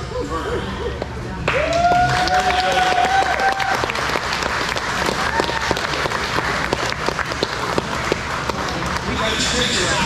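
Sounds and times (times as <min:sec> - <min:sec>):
small crowd applauding: 0:01.5 - 0:09.8.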